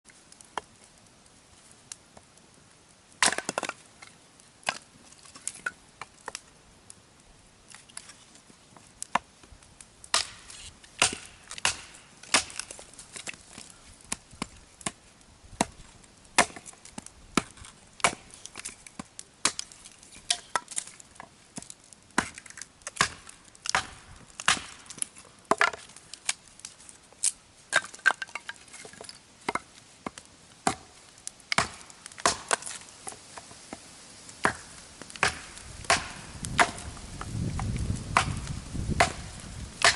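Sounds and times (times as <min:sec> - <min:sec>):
firewood cracking: 0:00.0 - 0:39.9.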